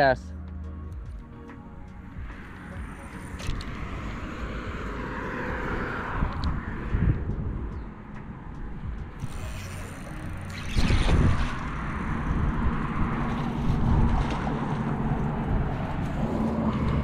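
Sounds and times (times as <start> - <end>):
wind rumbling on microphone: 2.0 - 17.0.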